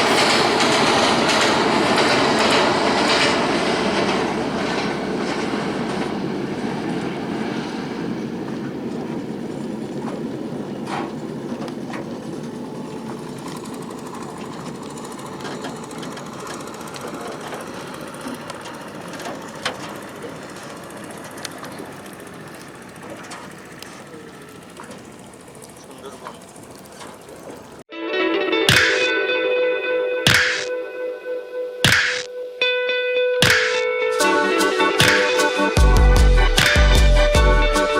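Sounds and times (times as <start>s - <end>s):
passenger train rumbling: 0.0s - 27.9s, 34.2s - 37.9s
wheels clicking on rails: 0.0s - 27.9s, 33.4s - 37.9s.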